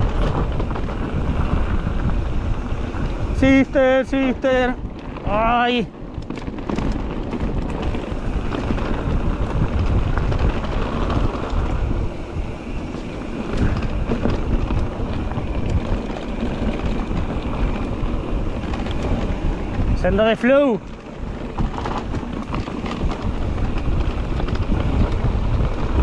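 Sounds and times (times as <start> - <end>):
bike clicks and knocks: 0.0 - 26.0
electric bike rumbling on dirt trail: 0.0 - 26.0
wind buffeting microphone: 0.0 - 26.0.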